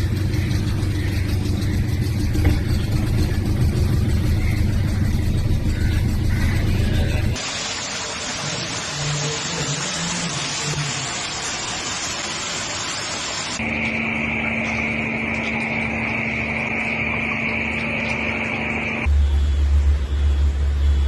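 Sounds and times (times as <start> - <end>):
mechanical drone with high whine: 0.0 - 21.0.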